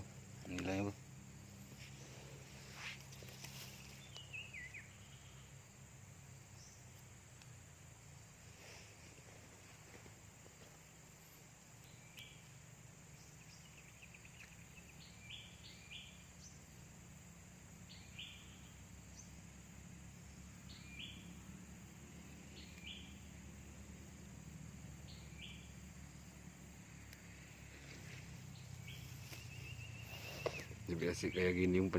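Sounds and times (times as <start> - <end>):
steady low hum: 0.0 - 31.8.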